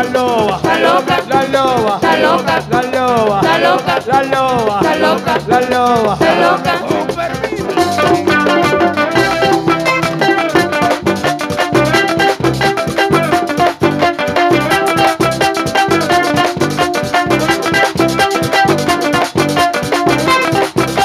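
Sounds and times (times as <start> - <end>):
guitars playing: 0.0 - 21.0
timbales and hand drum beat: 0.0 - 21.0.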